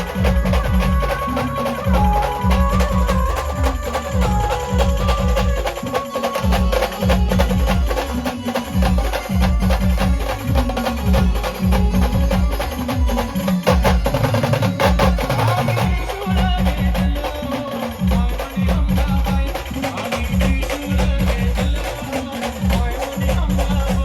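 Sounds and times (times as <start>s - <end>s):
held melody line: 0.0s - 24.0s
loud drums beating: 0.0s - 24.0s
sharp percussion clicks: 0.0s - 24.0s.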